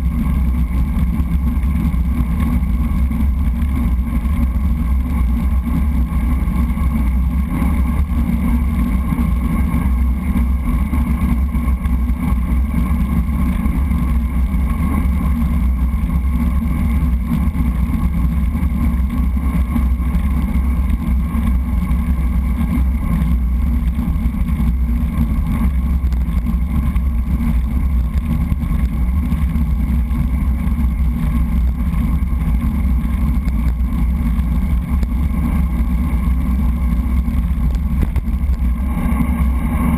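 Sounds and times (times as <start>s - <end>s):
tyres humming on asphalt: 0.0s - 39.9s
wind rumbling on microphone: 0.0s - 39.9s.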